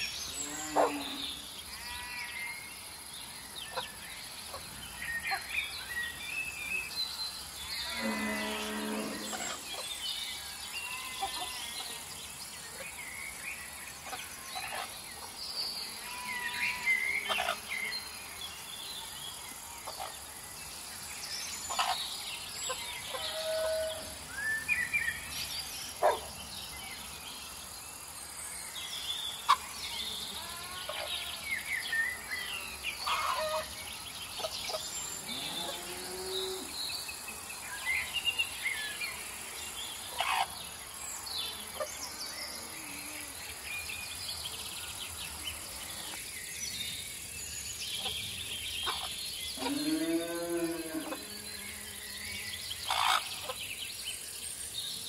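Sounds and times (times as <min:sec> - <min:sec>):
birds chirping and calling: 0:00.0 - 0:02.6, 0:03.3 - 0:19.1, 0:21.5 - 0:27.0, 0:29.0 - 0:54.2.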